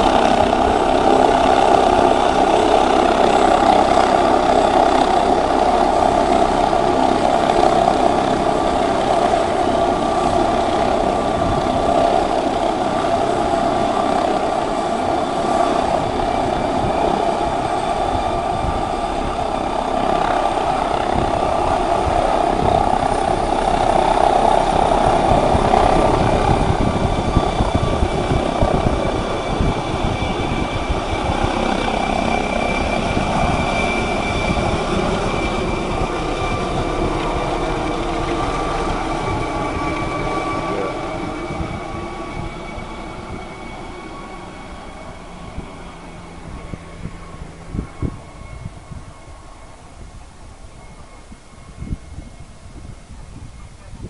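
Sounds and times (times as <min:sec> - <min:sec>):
helicopter running: 0:00.0 - 0:54.0
low rotor pulsing: 0:00.0 - 0:54.0.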